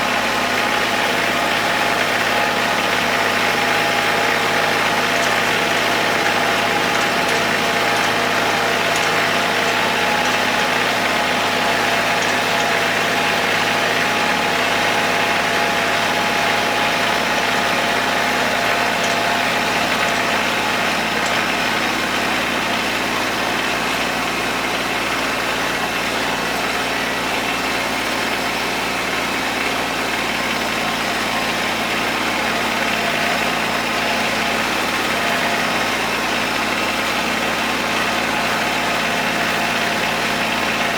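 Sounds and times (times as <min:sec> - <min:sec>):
tractor diesel engine humming: 0:00.0 - 0:40.9.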